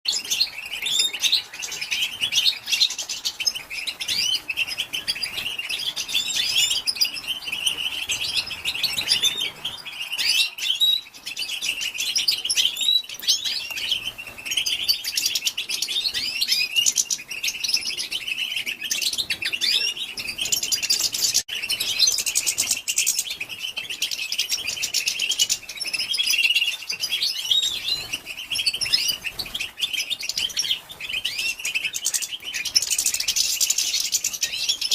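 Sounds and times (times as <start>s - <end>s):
goldfinch twittering: 0.1s - 34.9s.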